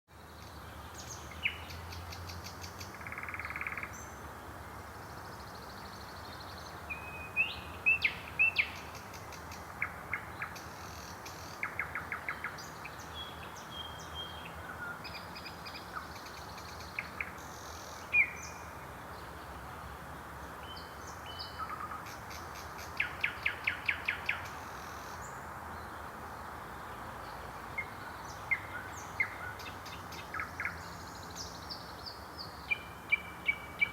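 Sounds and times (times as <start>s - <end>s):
background hiss: 0.1s - 33.9s
nightingale singing: 0.3s - 4.2s, 5.1s - 19.4s, 20.6s - 26.1s, 26.8s - 33.9s.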